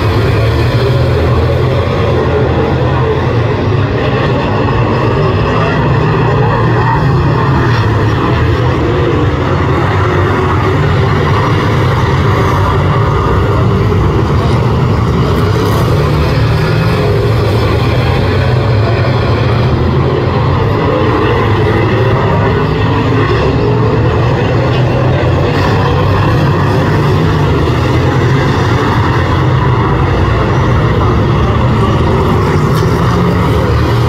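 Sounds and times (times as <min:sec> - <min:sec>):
racing car engines: 0:00.0 - 0:34.0.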